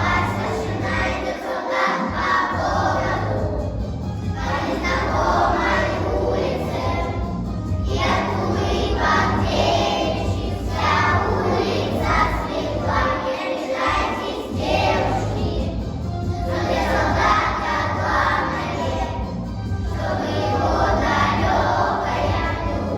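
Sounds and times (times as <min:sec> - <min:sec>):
children singing in chorus: 0:00.0 - 0:03.8, 0:04.4 - 0:15.8, 0:16.4 - 0:19.3, 0:19.9 - 0:22.9
musical accompaniment: 0:00.0 - 0:22.9.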